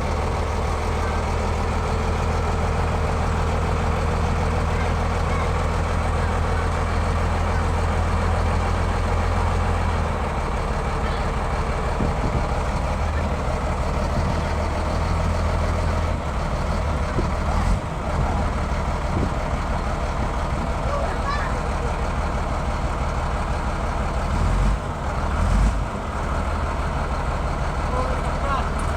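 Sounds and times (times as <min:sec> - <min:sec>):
diesel engine droning: 0:00.0 - 0:28.9.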